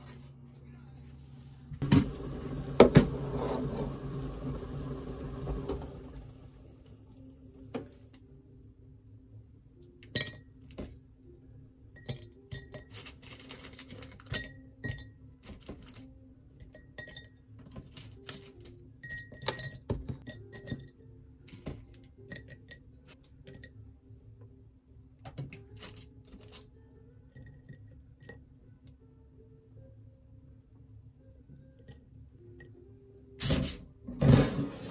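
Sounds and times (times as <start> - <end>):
soft background music: 0.0 - 34.9.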